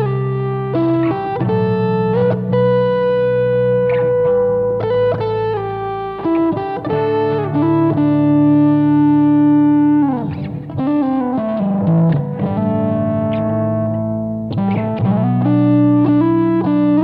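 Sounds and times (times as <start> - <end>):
bass and chords: 0.0 - 17.0
electric guitar lead melody: 0.0 - 17.0.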